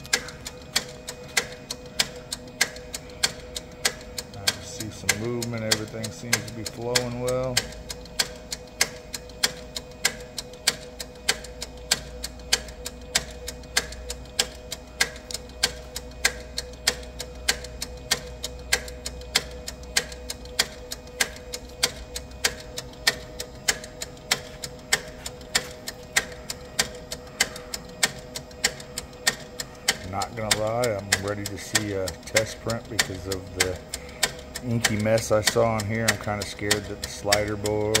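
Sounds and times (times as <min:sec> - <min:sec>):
printer mechanical ticking: 0:00.0 - 0:38.0.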